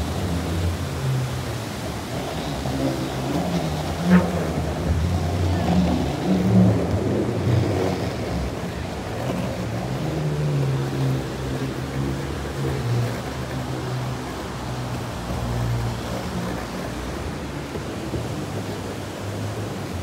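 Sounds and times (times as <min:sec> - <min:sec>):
longboard wheels rolling on steel: 0:00.0 - 0:20.0
river rapids rushing: 0:00.0 - 0:20.0.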